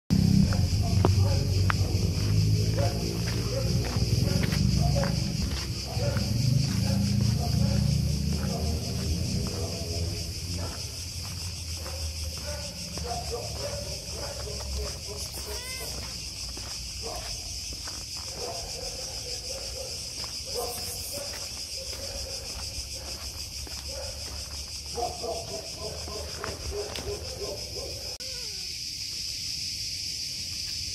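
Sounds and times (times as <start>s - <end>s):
insects droning: 0.1s - 30.9s
footsteps on pavement: 0.2s - 27.8s.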